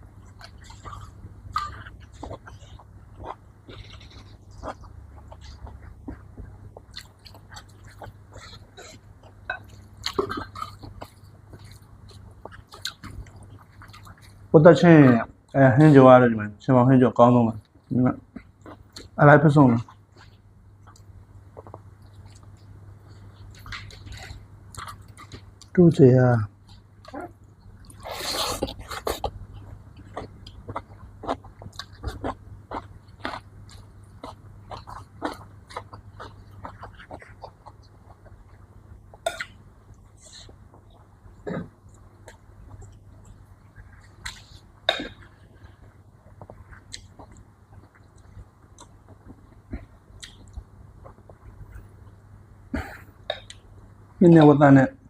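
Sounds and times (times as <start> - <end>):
chewing and mouth noises: 0.2 - 15.3, 17.6 - 25.8, 26.6 - 52.2.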